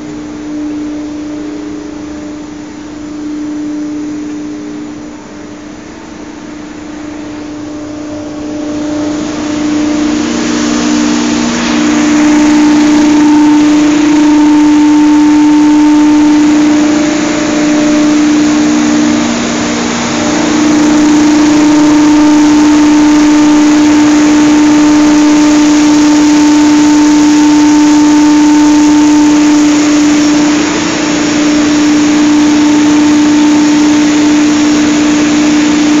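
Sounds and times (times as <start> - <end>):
industrial blowers droning: 0.0 - 36.0.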